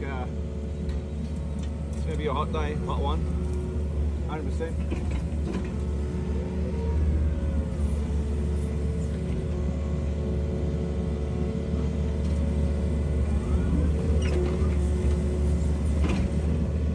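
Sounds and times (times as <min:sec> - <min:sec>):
engine droning: 0:00.0 - 0:16.9.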